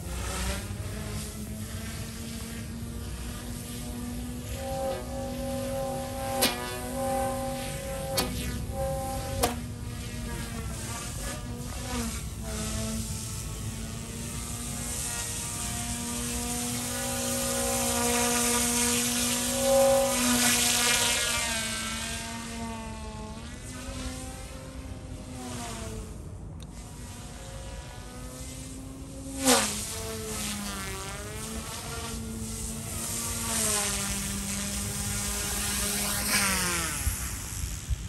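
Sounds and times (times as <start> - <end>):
rc helicopter motor whine: 0.0 - 38.0.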